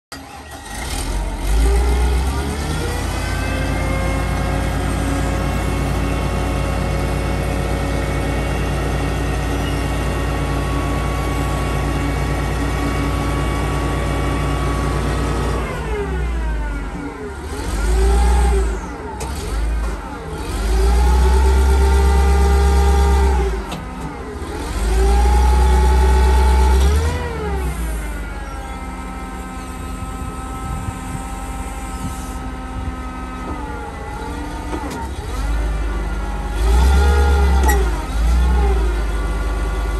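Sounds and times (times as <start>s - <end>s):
forklift engine idling and revving: 0.1s - 39.9s.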